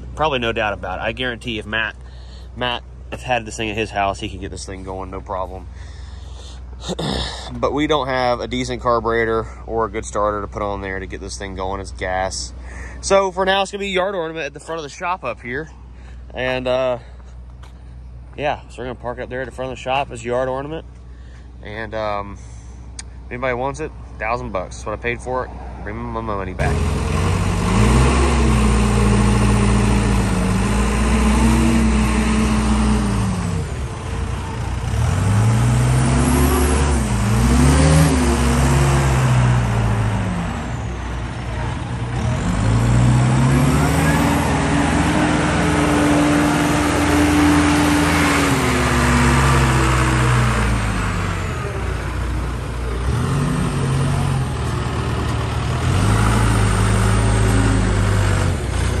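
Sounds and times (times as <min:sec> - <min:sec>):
diesel engine revving: 0:00.0 - 0:18.4, 0:25.8 - 0:59.0.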